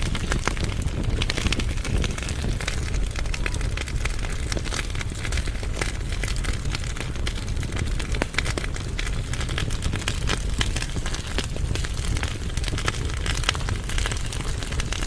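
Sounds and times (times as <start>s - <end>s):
logs crackling and snapping: 0.0s - 15.0s
low rumble of flames: 0.0s - 15.0s.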